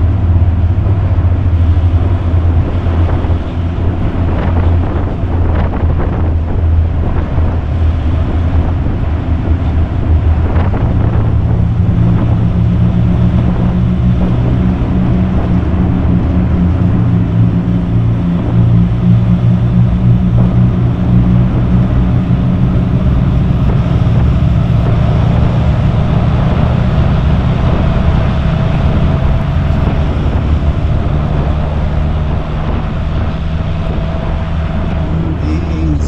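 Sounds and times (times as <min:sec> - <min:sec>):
car engine running: 0:00.0 - 0:36.0
road noise: 0:00.0 - 0:36.0.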